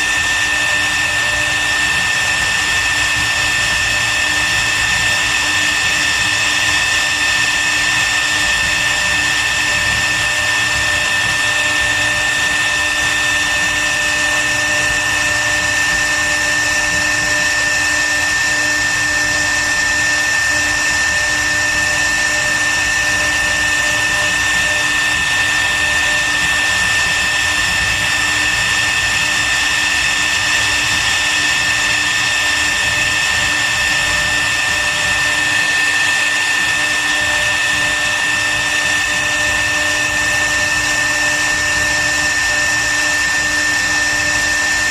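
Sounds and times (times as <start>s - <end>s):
router spindle whining: 0.0s - 44.9s.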